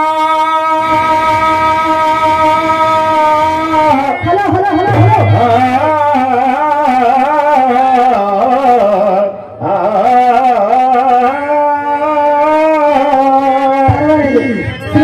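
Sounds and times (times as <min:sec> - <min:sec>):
man singing into microphone: 0:00.0 - 0:15.0.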